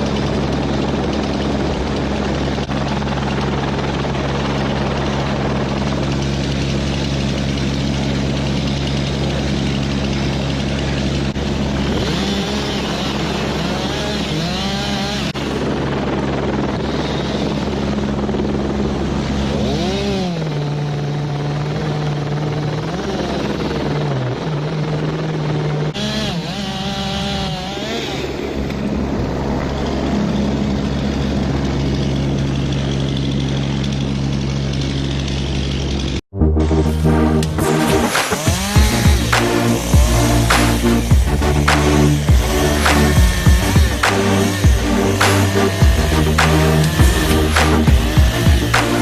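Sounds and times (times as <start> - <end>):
heavy engine running: 0.0 - 49.0.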